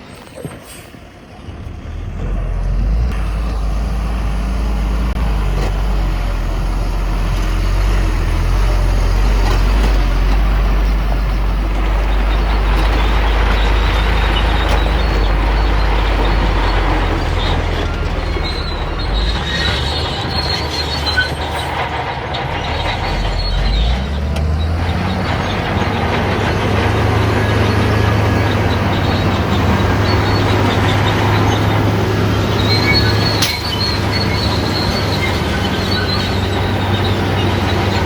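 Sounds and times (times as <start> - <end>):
diesel machinery engine rumble: 0.0 - 38.0.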